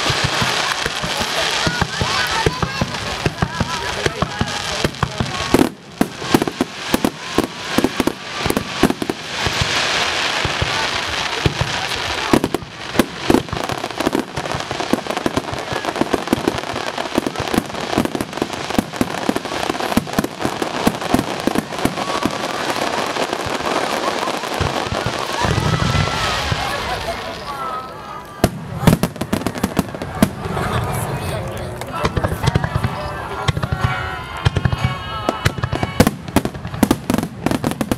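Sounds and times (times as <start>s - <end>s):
fireworks bursting with bangs: 0.0s - 37.9s
fireworks crackling: 0.0s - 37.9s.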